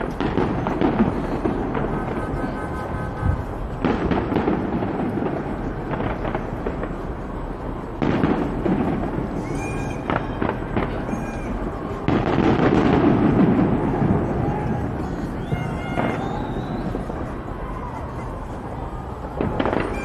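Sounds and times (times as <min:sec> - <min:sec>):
fireworks booming and crackling: 0:00.0 - 0:20.0
loud firework bursts: 0:00.0 - 0:20.0.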